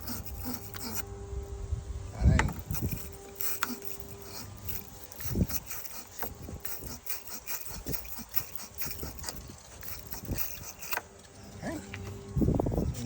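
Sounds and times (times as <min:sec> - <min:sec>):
tools clicking and scraping: 0:00.0 - 0:01.1, 0:02.5 - 0:13.0.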